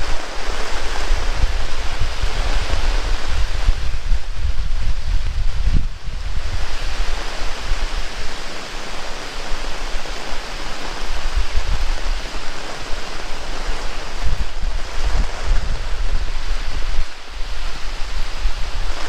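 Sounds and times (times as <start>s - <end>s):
heavy rain pouring: 0.0s - 19.0s
wind buffeting microphone: 0.0s - 19.0s.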